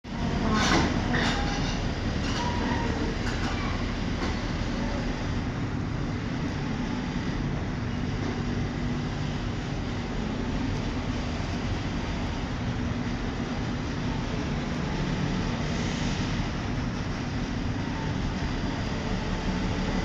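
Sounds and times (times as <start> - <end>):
diesel engine rumble: 0.0 - 20.0.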